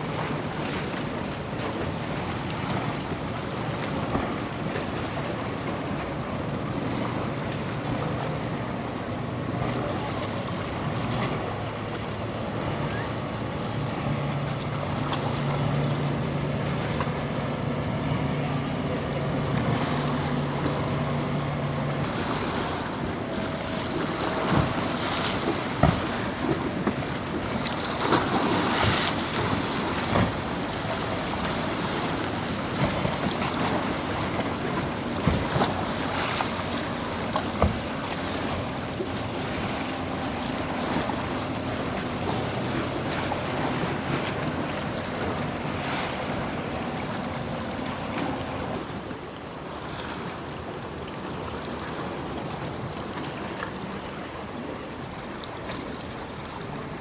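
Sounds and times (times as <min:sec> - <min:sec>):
faint boat engine hum: 0:00.0 - 0:57.0
waves and surf: 0:00.0 - 0:57.0.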